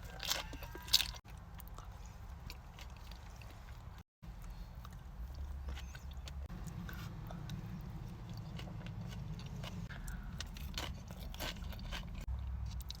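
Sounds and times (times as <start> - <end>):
chewing and biting food: 0.0 - 13.0.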